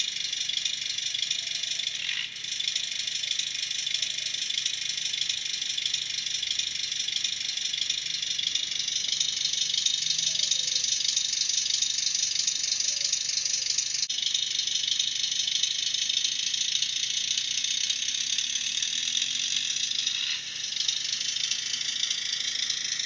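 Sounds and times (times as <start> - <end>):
rattly diesel engine sound: 0.0 - 23.0.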